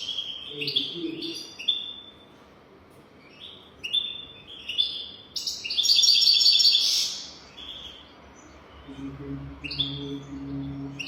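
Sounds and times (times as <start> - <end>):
finch chirps: 0.0 - 2.4, 3.2 - 11.0.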